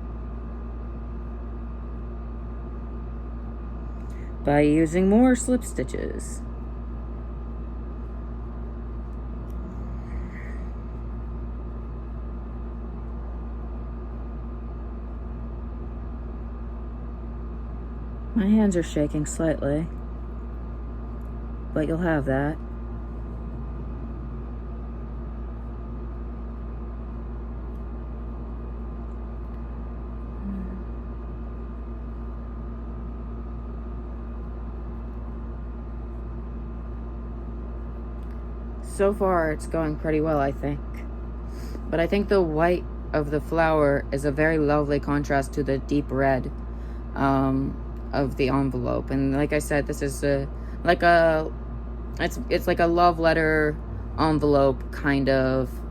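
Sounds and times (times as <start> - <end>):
fan hum and hiss: 0.0 - 55.9.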